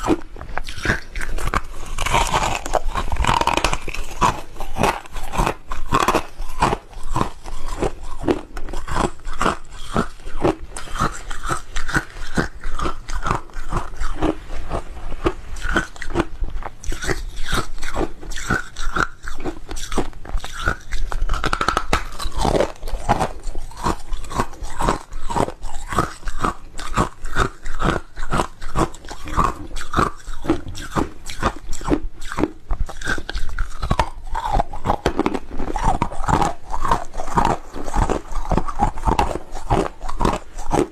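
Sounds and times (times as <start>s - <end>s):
ice crunched between teeth: 0.0s - 40.9s.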